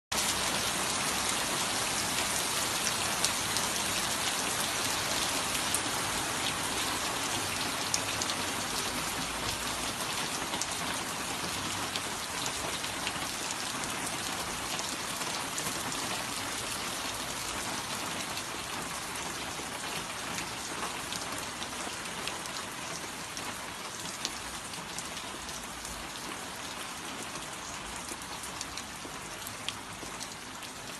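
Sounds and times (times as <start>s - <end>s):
steady rain falling: 0.1s - 30.9s.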